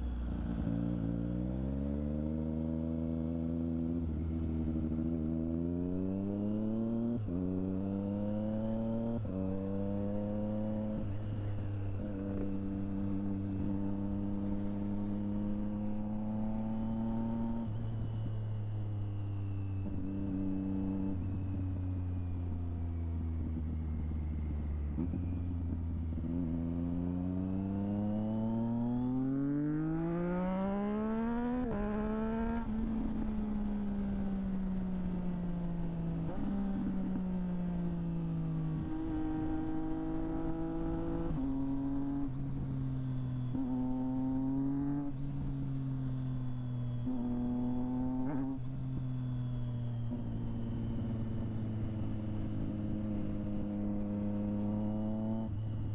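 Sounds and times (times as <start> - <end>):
motorcycle engine revving: 0.0 - 18.3, 19.1 - 55.9.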